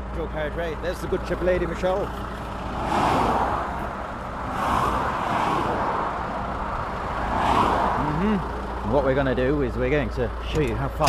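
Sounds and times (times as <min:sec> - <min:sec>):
vehicles passing: 0:00.0 - 0:11.0.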